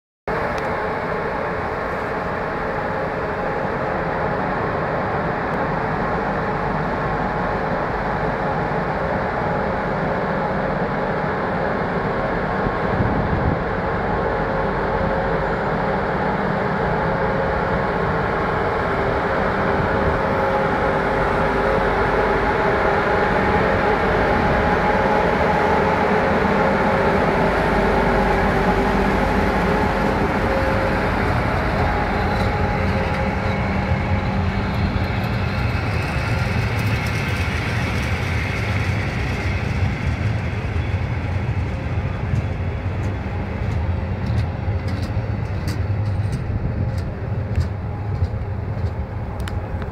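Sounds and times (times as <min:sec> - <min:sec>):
electric locomotive drone: 0:00.3 - 0:49.9.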